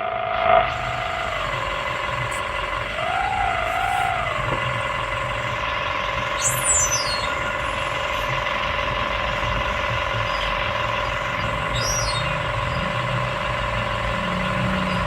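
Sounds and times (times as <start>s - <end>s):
excavator engine whining: 0.0s - 15.0s.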